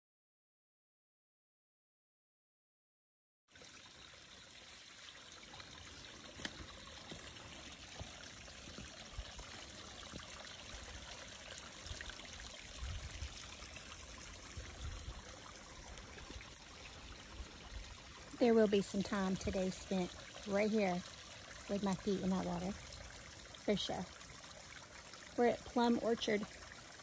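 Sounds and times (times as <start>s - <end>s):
creek splashing over rocks: 3.5s - 27.0s.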